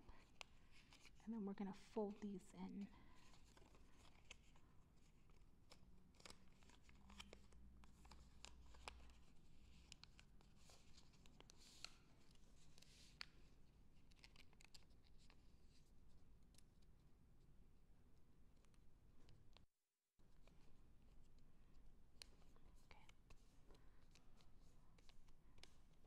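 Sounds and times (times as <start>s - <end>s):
paper crinkling while folded: 0.1s - 16.8s, 20.3s - 26.0s.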